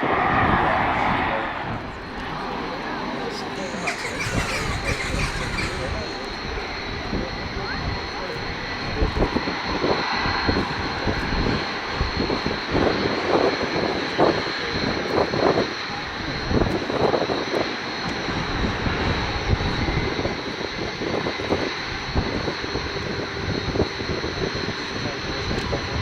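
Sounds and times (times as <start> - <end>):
jet engines running: 0.8 - 26.0.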